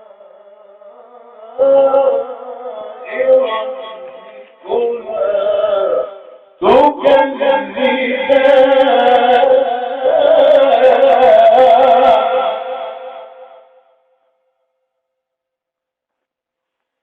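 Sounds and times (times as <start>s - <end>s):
man chanting recitation: 0.0s - 13.7s.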